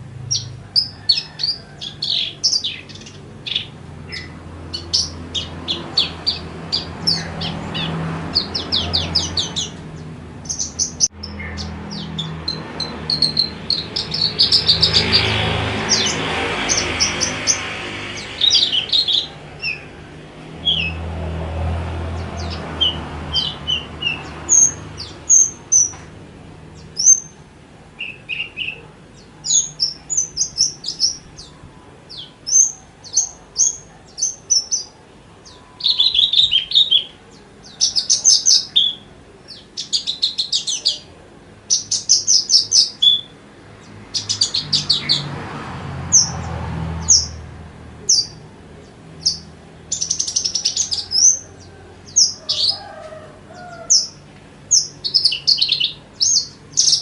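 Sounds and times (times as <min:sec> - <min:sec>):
bird singing chirps and trills: 0:00.0 - 0:45.4, 0:46.0 - 0:57.0.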